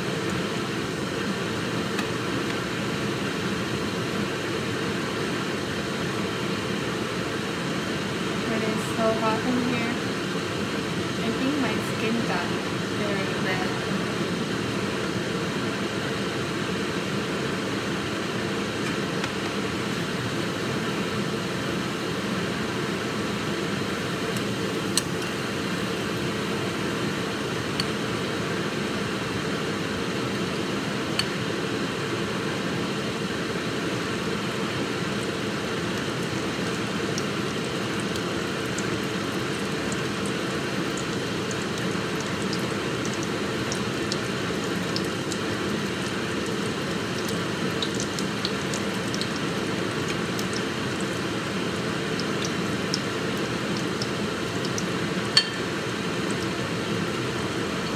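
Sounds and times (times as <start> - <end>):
ventilation noise: 0.0 - 57.9.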